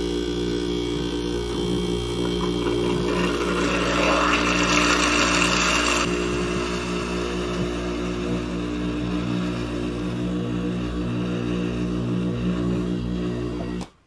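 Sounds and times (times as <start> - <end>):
compressor humming: 0.0 - 14.0.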